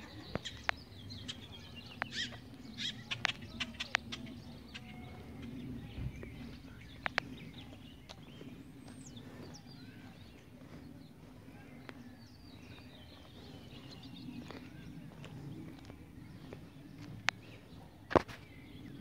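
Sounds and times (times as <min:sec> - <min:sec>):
birds chirping: 0:00.0 - 0:19.0
steady low hum: 0:00.0 - 0:19.0.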